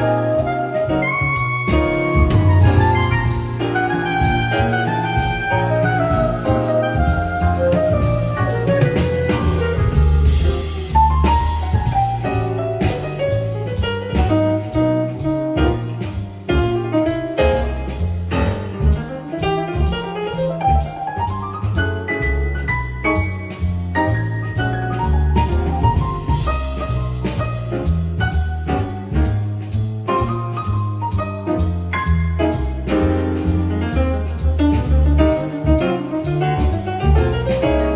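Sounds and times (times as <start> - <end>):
jazz with piano bass and drums: 0.0 - 37.9.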